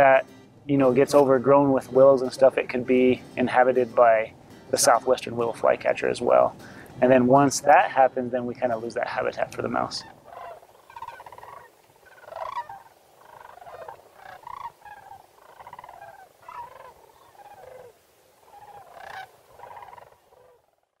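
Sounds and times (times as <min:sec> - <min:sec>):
cranes calling: 0:00.0 - 0:20.9.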